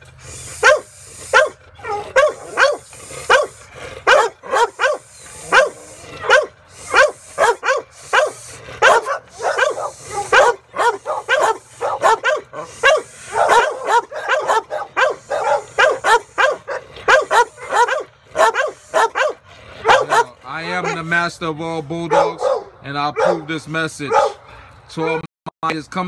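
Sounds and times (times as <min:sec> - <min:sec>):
dog barking: 0:00.6 - 0:21.1, 0:22.1 - 0:25.3.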